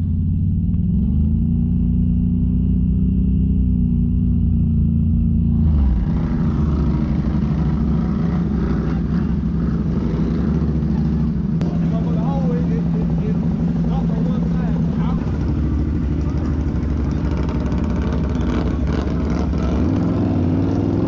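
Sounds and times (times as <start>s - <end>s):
vehicle engine running hard: 0.0s - 21.0s.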